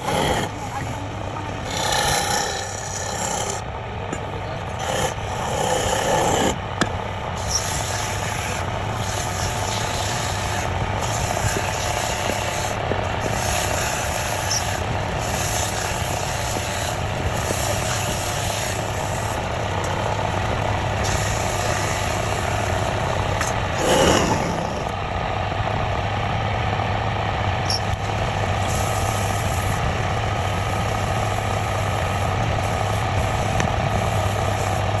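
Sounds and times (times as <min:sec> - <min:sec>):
turning tool scraping wood: 0:00.0 - 0:25.0, 0:28.6 - 0:35.0
wood lathe motor hum: 0:00.0 - 0:35.0.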